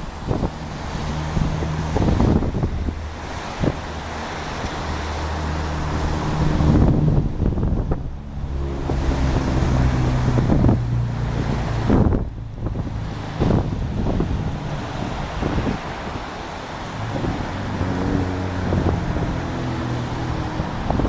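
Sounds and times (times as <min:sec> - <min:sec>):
jet engines humming: 0:00.0 - 0:21.0
wind buffeting microphone: 0:00.0 - 0:21.0.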